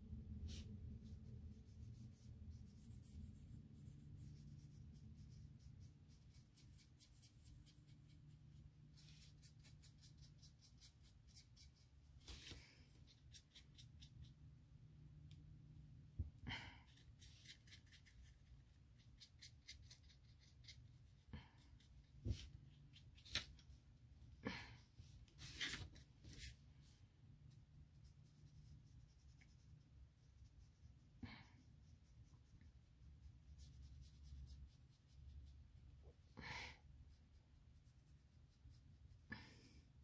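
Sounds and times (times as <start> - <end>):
low room hum: 0.0 - 40.0.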